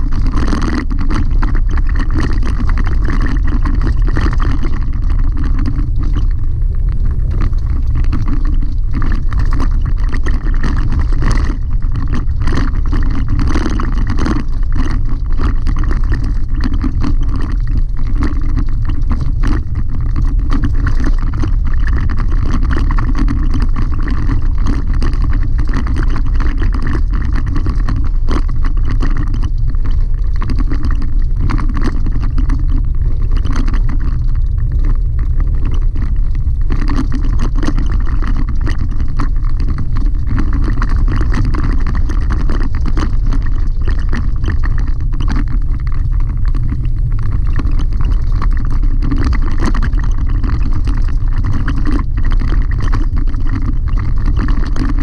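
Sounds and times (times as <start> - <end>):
stones and cab rattling: 0.0 - 55.0.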